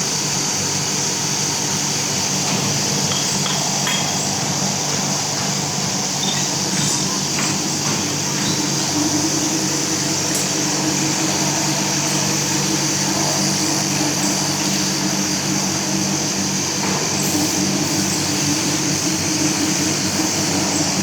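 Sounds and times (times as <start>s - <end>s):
factory machinery hum: 0.0s - 21.0s
machinery hiss: 0.0s - 21.0s.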